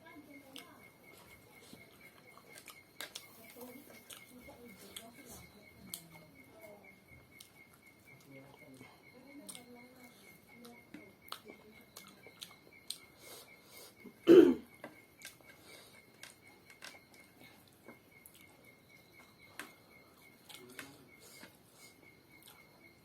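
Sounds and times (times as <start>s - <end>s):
high insect chirp: 0.0s - 23.0s
chewing clicks and smacks: 0.5s - 6.4s, 7.3s - 13.5s, 14.7s - 23.0s.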